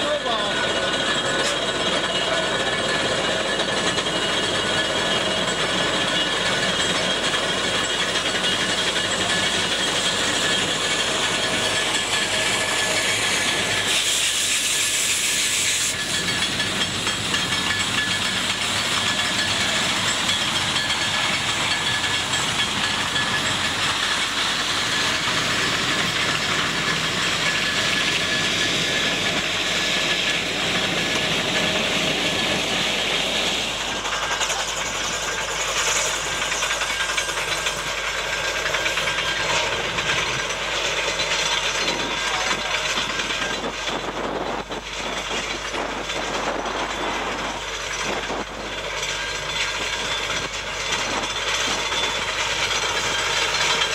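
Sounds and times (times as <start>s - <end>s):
steam locomotive venting steam: 0.0s - 53.9s
train running on rack line: 0.0s - 53.9s.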